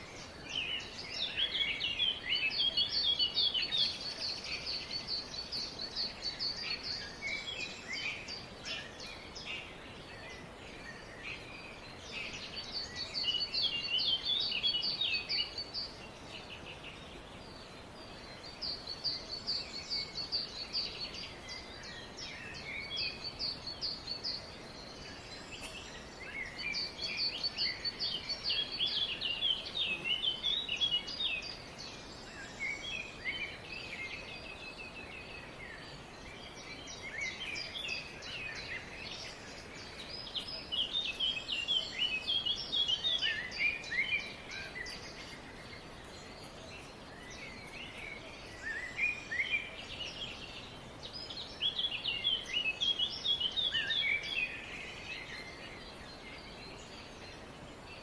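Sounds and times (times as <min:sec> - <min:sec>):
birds chirping and singing: 0:00.0 - 0:58.0
faint background hiss: 0:00.0 - 0:58.0.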